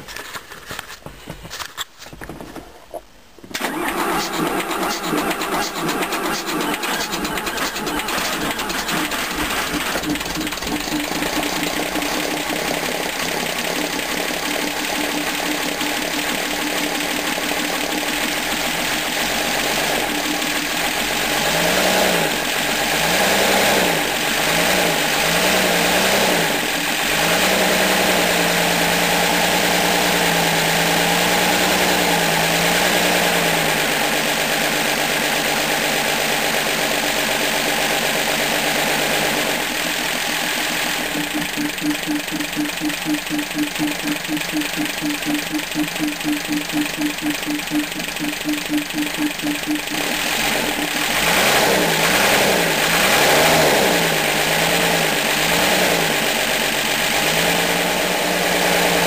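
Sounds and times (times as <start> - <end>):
diesel truck engine revving: 3.6 - 34.5, 38.3 - 59.0.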